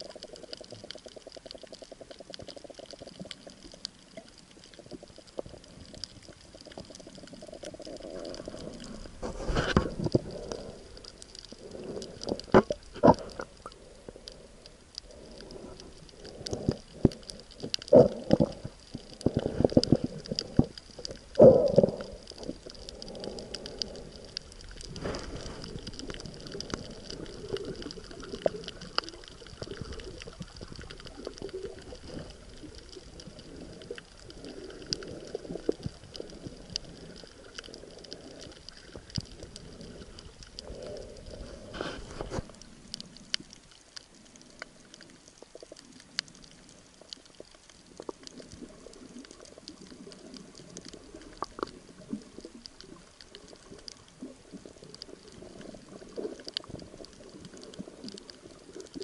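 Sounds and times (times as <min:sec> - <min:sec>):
faint crackling: 0:00.0 - 0:59.0
muffled underwater sloshing: 0:00.0 - 0:59.0.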